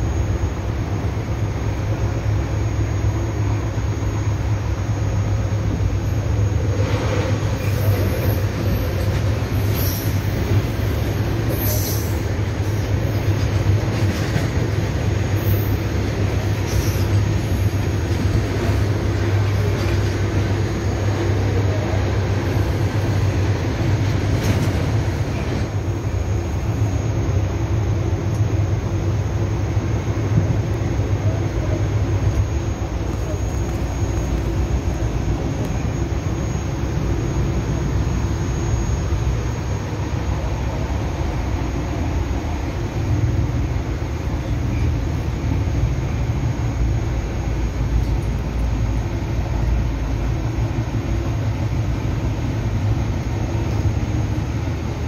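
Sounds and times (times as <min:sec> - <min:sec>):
train rumble and hum: 0:00.0 - 0:55.0.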